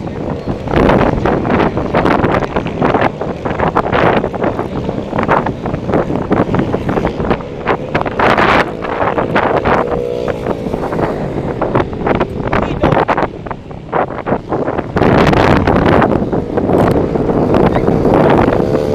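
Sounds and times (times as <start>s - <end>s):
motorcycle engines running: 0.0s - 18.9s
wind buffeting microphone: 0.0s - 18.9s.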